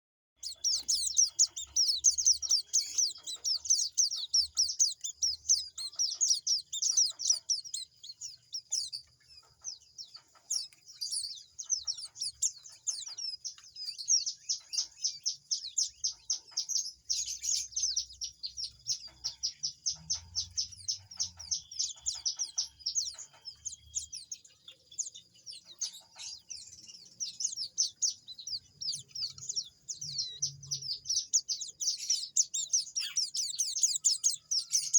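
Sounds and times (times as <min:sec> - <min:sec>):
chicks chirping high-pitched: 0:00.4 - 0:34.9.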